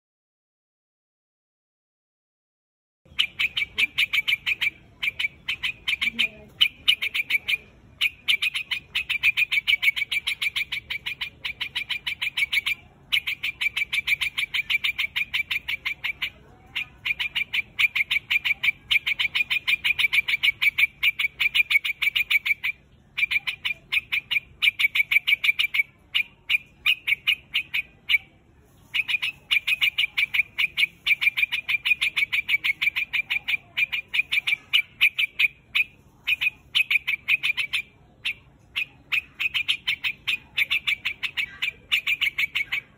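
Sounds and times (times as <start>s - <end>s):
bird calling in sharp notes: 3.1s - 42.9s.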